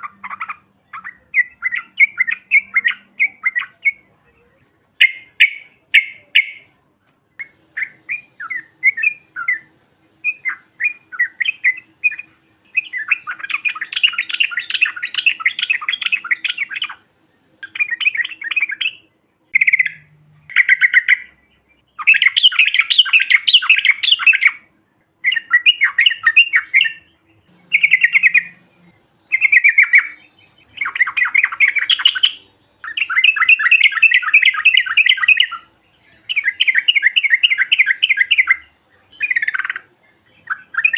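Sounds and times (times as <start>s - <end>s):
bulbul singing chattering phrases: 0.0s - 40.9s.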